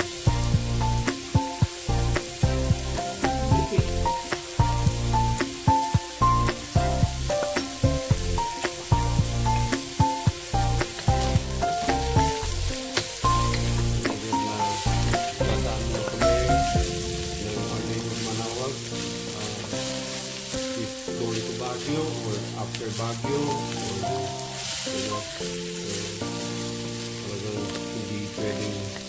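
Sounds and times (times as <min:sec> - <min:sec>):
background music: 0:00.0 - 0:29.0
food sizzling in a wok: 0:00.0 - 0:29.0.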